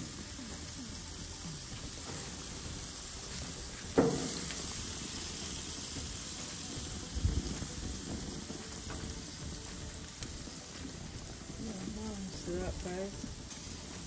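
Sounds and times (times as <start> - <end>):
chicken sizzling: 0.0 - 14.0.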